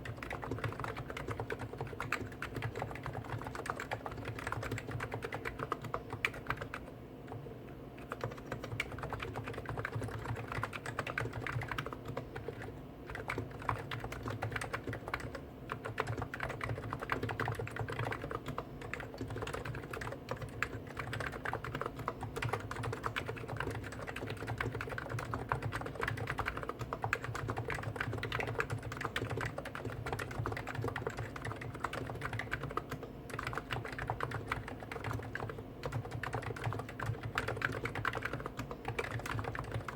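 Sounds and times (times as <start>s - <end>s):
keyboard typing clatter: 0.0s - 7.4s, 8.0s - 39.9s.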